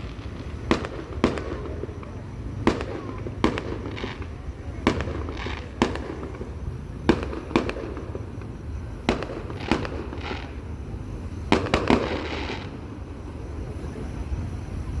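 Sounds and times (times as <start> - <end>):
fireworks bangs: 0.0 - 14.1
fireworks crackling hiss: 0.0 - 15.0.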